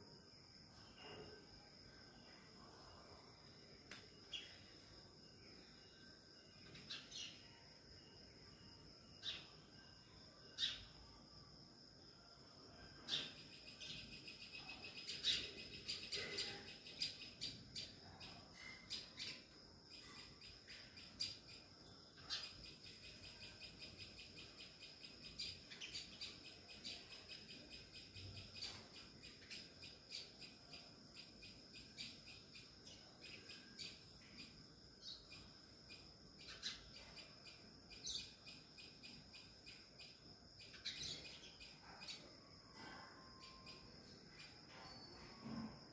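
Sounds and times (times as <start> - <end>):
high-pitched insect drone: 0.7 - 45.9.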